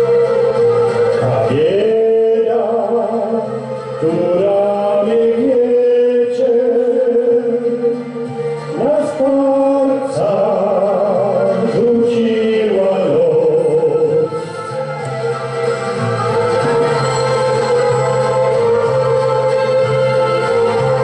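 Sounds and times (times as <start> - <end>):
instrumental accompaniment: 0.0 - 21.0
man singing with vibrato: 0.0 - 21.0.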